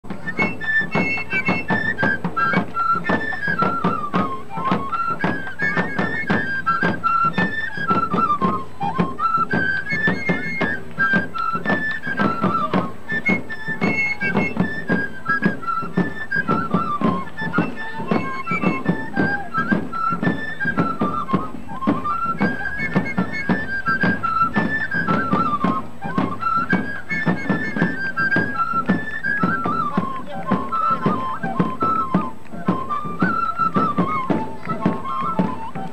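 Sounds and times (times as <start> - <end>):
flutes playing melody: 0.0 - 35.9
percussion beat: 0.0 - 35.9.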